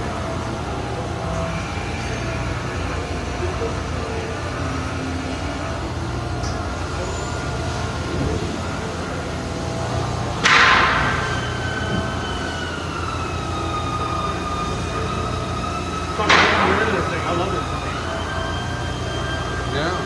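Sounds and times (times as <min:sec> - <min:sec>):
machine humming and whining: 0:00.0 - 0:20.0.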